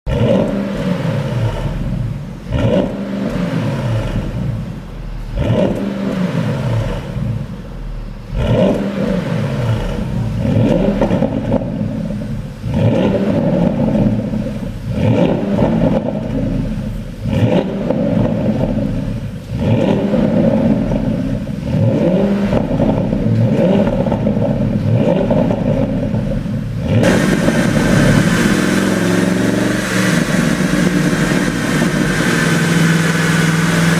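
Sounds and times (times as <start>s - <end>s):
car engine revving: 0.0s - 33.9s
exhaust pops and crackles: 0.0s - 33.9s.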